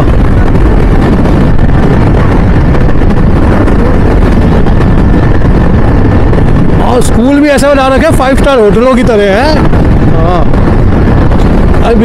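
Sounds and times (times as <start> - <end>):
road noise: 0.0 - 12.0
wind rush: 0.0 - 12.0.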